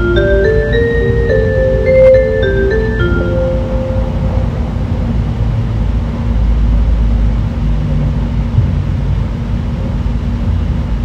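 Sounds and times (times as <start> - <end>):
faint steady hum: 0.0 - 11.0
train cabin low rumble: 0.0 - 11.0.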